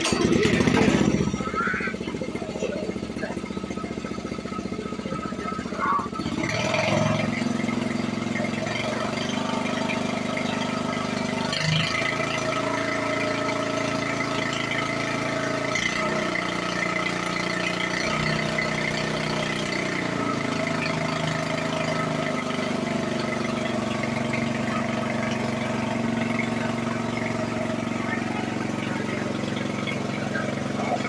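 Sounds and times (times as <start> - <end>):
motor running: 0.0 - 31.0.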